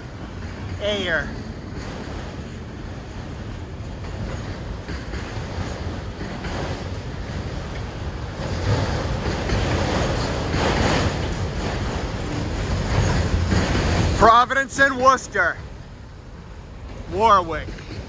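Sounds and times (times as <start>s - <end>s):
freight train wheels clattering: 0.0s - 18.0s.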